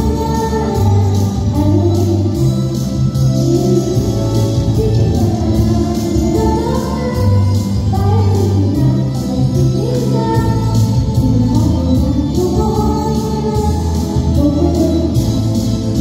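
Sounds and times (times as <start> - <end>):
backing track with beat: 0.0 - 16.0
girl singing into microphone: 0.0 - 16.0.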